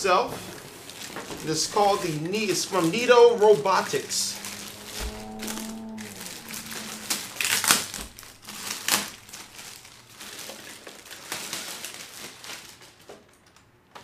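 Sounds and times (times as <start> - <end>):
plastic wrapping crinkling: 0.1 - 14.0.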